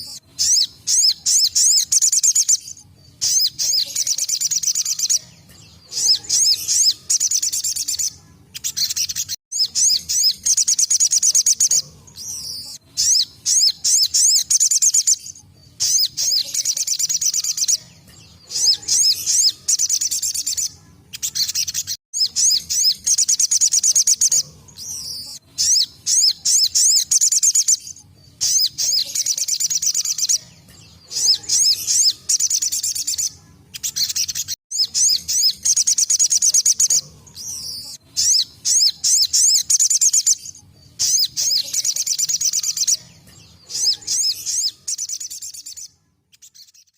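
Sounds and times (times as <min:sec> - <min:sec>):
bird twittering trills: 0:00.0 - 0:46.9.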